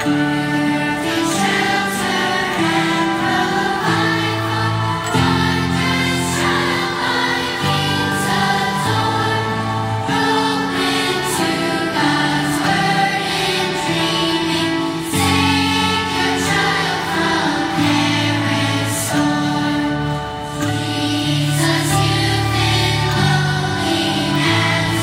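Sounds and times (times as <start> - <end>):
children's choir singing a hymn: 0.0 - 25.0.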